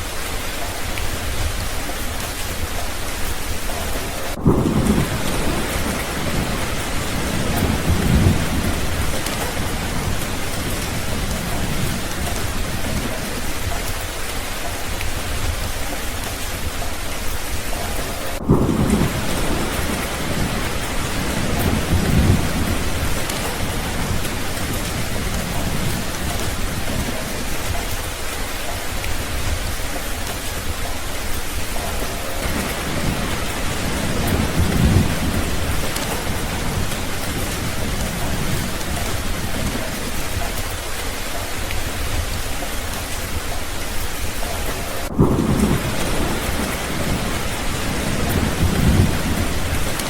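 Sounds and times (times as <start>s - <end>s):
low thunder rumbling: 0.0s - 50.0s
steady rain falling: 0.0s - 50.0s.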